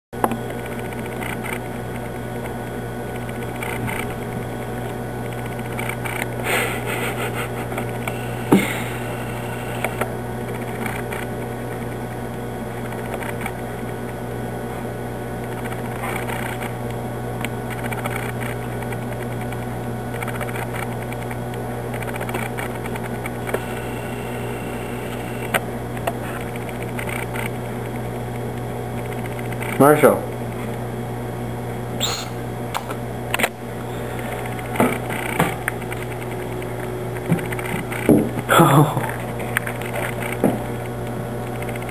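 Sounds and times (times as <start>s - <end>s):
low mechanical hum: 0.2s - 41.9s.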